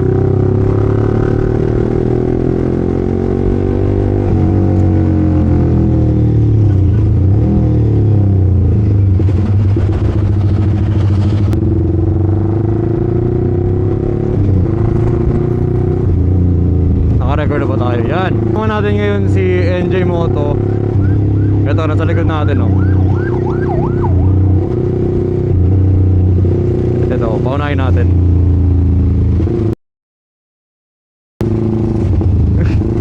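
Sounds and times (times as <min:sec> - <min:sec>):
motorcycle engine running: 0:00.0 - 0:29.5.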